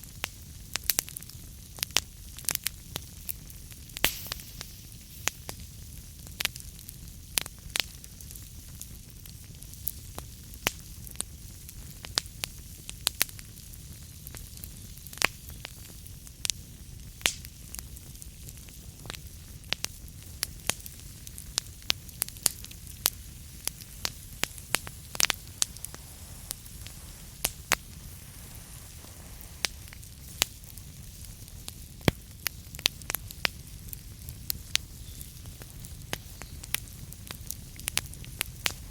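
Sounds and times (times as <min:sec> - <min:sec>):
burning logs crackling and popping: 0:00.0 - 0:38.9
fire flames rumbling: 0:00.1 - 0:38.9.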